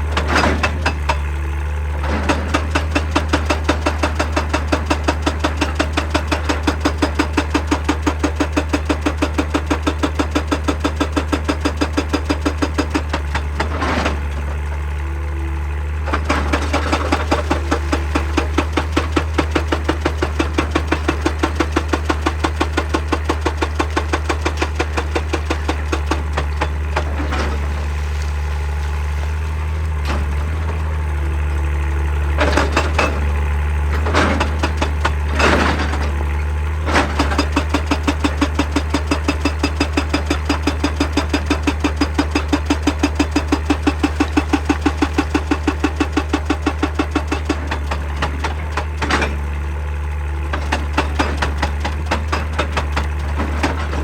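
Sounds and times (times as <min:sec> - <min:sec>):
diesel engine drone: 0:00.0 - 0:54.0
hydraulic breaker hammering rock: 0:00.0 - 0:54.0.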